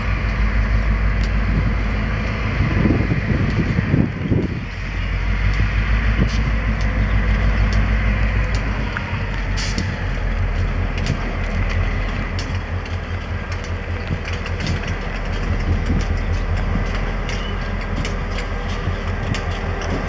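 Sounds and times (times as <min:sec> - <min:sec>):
locomotive engine rumbling: 0:00.0 - 0:20.0.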